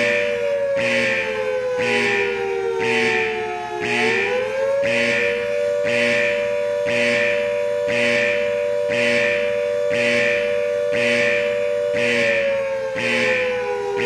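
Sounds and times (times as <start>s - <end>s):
siren alarm wail: 0.0s - 14.0s.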